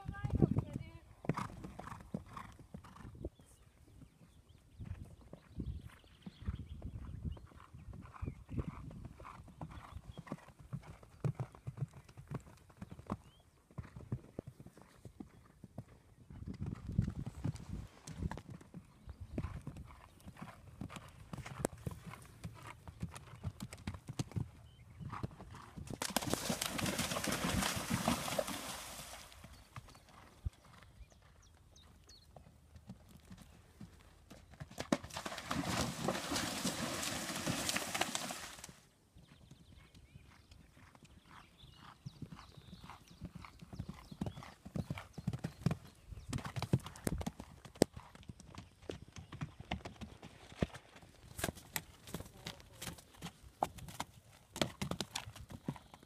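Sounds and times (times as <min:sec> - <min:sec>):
horse hooves cantering on turf: 0:00.0 - 0:03.0, 0:04.8 - 0:56.0.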